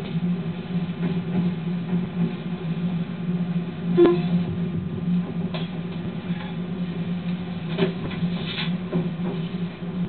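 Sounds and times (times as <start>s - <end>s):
train engine drone: 0.0s - 10.0s.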